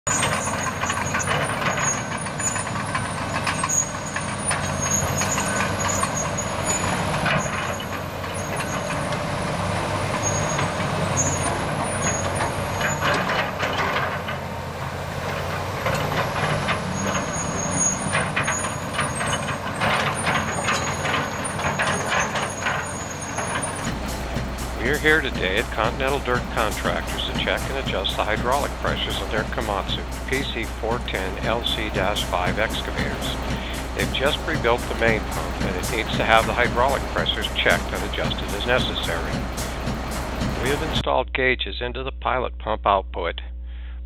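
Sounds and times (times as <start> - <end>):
heavy diesel engine drone: 0.0 - 41.1
clanks of steel on steel: 0.1 - 41.0.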